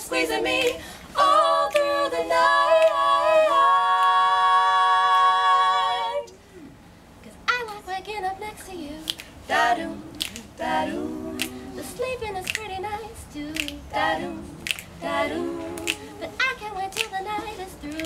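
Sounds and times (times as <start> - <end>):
women singing in harmony: 0.0 - 6.3, 7.4 - 18.0.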